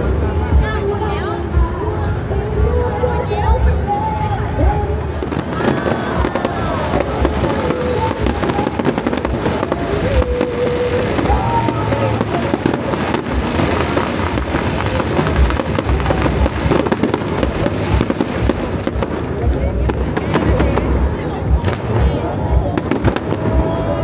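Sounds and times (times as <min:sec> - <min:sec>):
fireworks bangs and crackles: 0:03.4 - 0:24.0.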